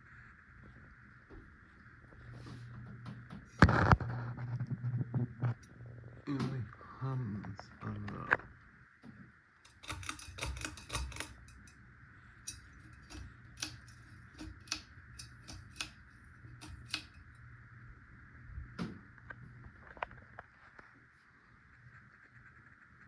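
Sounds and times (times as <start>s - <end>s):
ceiling fan motor humming: 0.0s - 22.9s.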